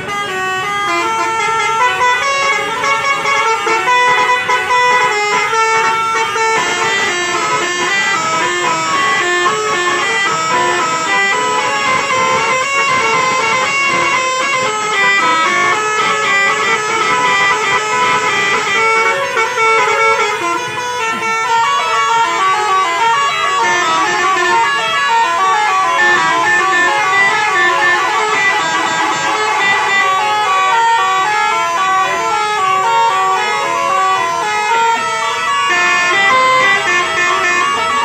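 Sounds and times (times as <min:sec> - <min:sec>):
multi-tone bus horns playing tunes: 0:00.0 - 0:38.0.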